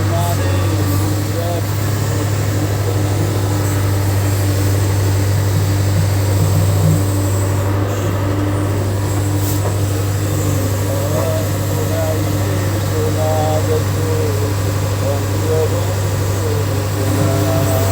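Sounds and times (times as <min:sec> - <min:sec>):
heavy diesel engine drone: 0:00.0 - 0:17.9.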